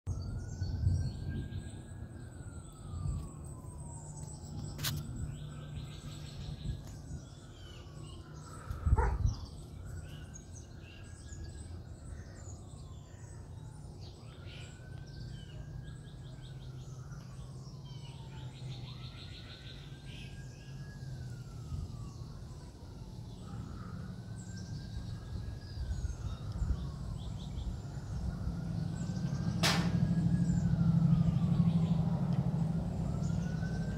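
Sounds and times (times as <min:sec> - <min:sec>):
birds chirping: 0:00.1 - 0:33.9
siren wailing: 0:00.1 - 0:33.9.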